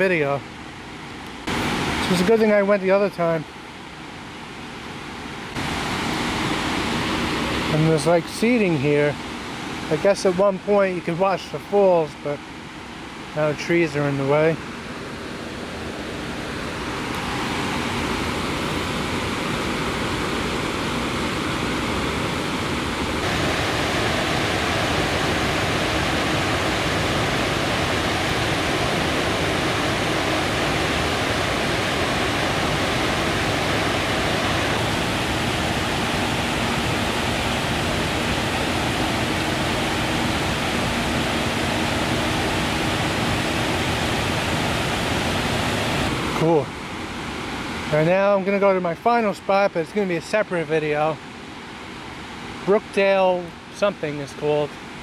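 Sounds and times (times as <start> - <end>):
waterfall rushing: 0.0 - 3.4, 4.5 - 55.0.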